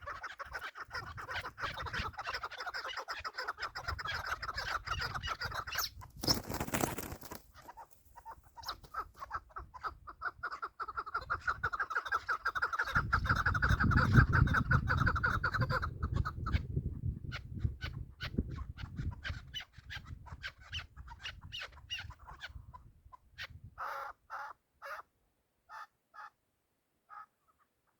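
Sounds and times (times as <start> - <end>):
partridges clucking calls: 0.0 - 25.0.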